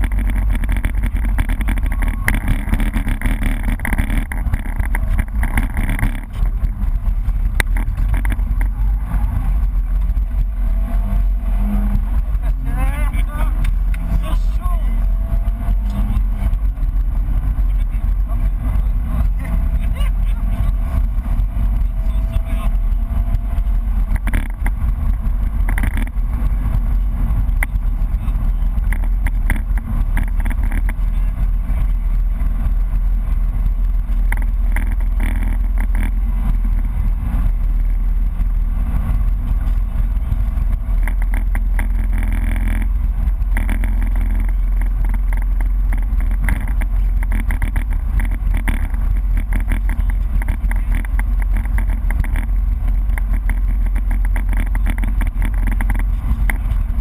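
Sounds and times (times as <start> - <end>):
car engine droning: 0.0 - 57.0
road and tyre noise: 0.0 - 57.0.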